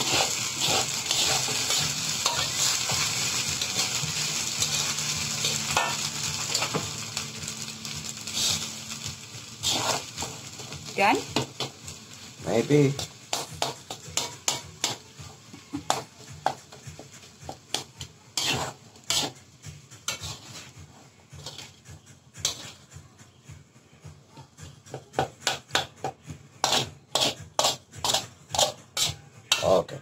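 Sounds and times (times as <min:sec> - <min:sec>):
metal spatula scraping a wok: 0:00.0 - 0:15.1, 0:15.8 - 0:23.0, 0:24.6 - 0:30.0.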